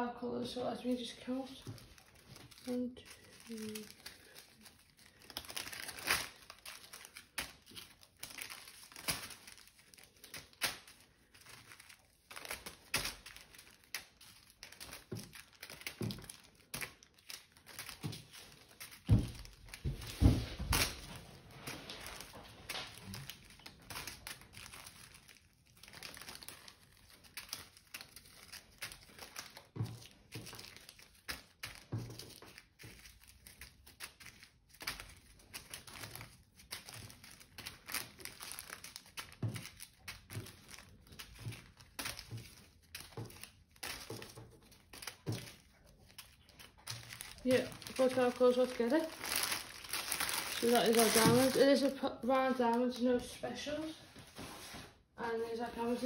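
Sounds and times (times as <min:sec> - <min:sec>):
plastic bags crinkling: 0:00.3 - 0:56.0.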